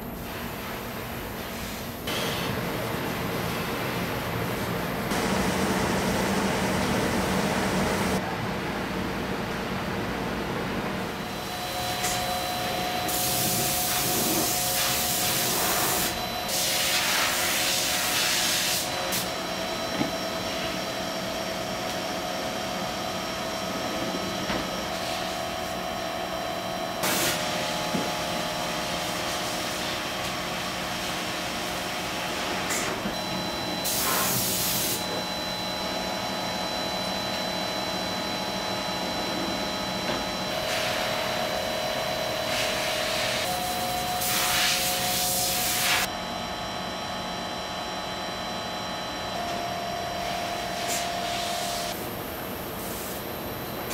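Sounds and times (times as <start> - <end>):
machine humming and whining: 0.0 - 53.9.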